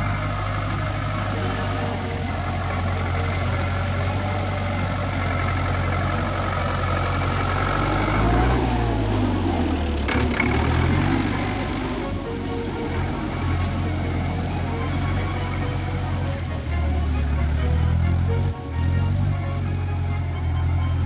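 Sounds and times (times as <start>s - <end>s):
tractor diesel engine passing: 0.0s - 21.0s.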